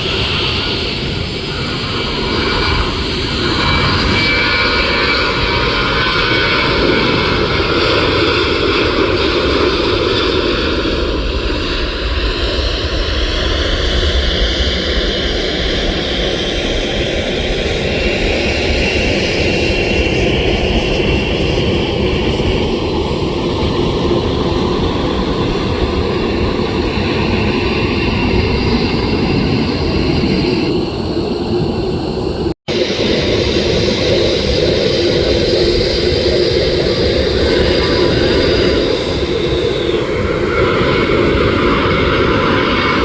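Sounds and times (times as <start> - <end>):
jet airliner engines roaring: 0.0 - 43.0.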